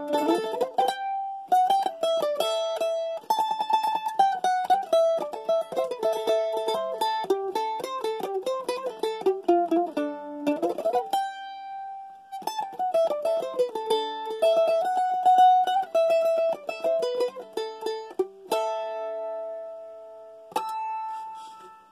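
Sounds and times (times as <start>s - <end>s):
acoustic mandolin playing: 0.0s - 21.9s.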